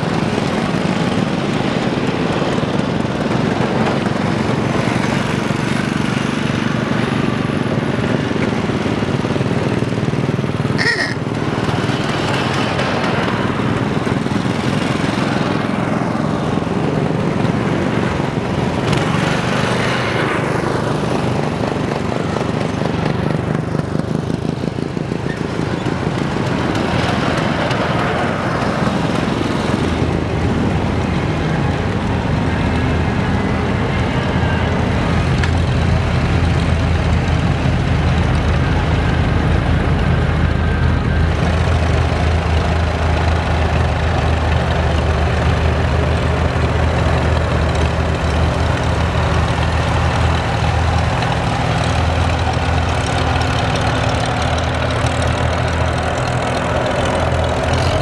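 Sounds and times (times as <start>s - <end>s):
vehicle engines droning: 0.0s - 58.0s.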